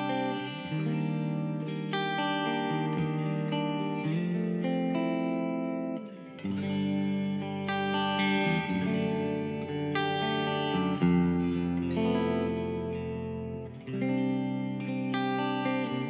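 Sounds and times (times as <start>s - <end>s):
electric guitar chords with reverb: 0.0s - 16.0s.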